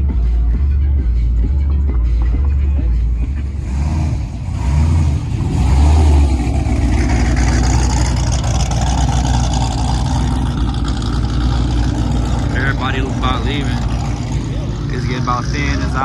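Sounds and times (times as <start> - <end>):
car engine accelerating: 0.0 - 16.0
deep bass throb: 0.0 - 16.0.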